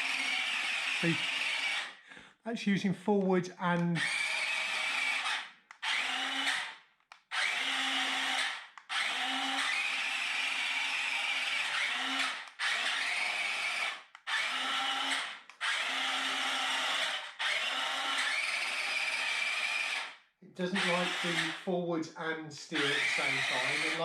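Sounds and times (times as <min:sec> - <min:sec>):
electric motors whining: 0:00.0 - 0:02.0, 0:03.8 - 0:21.6, 0:22.6 - 0:24.0.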